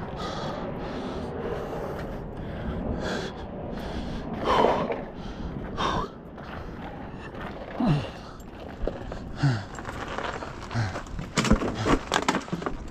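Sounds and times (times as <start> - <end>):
low steady rumble: 0.0 - 11.3
person breathing hard: 0.0 - 12.0.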